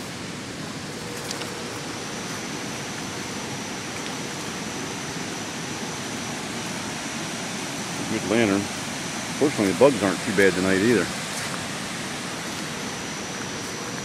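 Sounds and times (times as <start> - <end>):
river water rushing over dam: 0.0 - 14.0.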